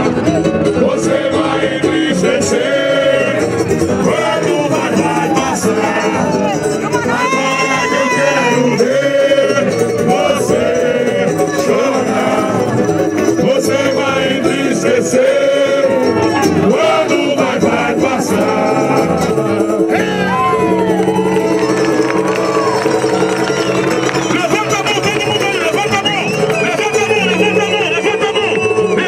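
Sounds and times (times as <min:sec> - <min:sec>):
small guitar and guitar accompaniment: 0:00.0 - 0:29.0
men singing: 0:00.3 - 0:21.6, 0:24.2 - 0:29.0.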